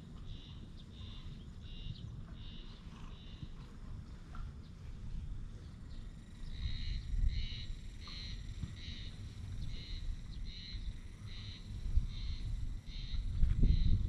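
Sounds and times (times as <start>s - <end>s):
insect chirping: 0.0s - 3.8s, 5.3s - 14.0s.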